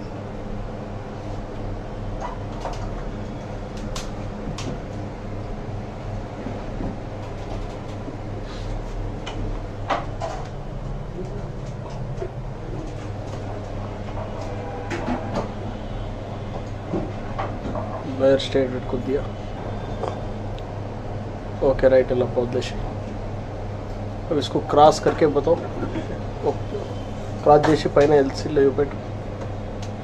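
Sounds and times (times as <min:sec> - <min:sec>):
low mains hum: 0:00.0 - 0:30.0.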